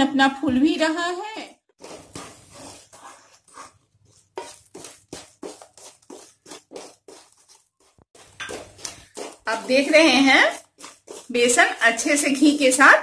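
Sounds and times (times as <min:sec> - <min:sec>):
wooden spatula scraping a pan: 0:01.7 - 0:13.0.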